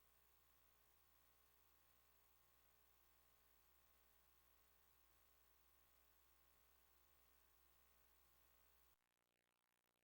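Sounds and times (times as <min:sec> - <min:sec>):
faint steady hiss: 0:00.0 - 0:09.0.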